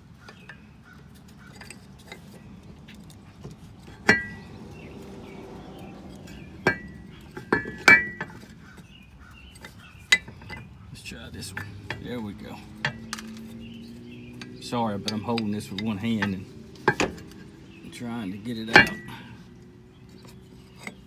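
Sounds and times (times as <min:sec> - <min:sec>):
metallic clinks: 0:01.2 - 0:08.8, 0:09.5 - 0:21.0.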